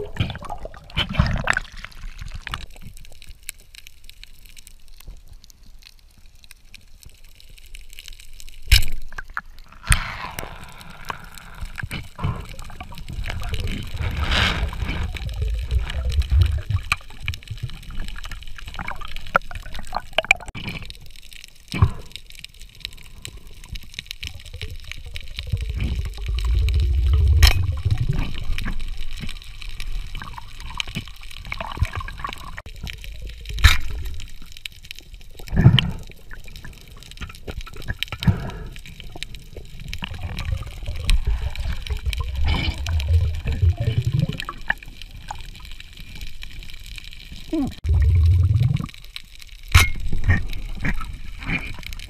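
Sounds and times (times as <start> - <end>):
crackling hiss: 0.0 - 52.0
muffled underwater movement: 9.1 - 52.0.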